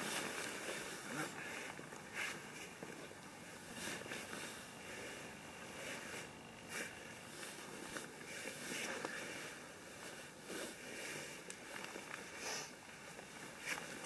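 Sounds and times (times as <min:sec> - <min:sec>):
rustling and handling noises: 0:00.0 - 0:14.0
steady background hiss: 0:00.0 - 0:14.0.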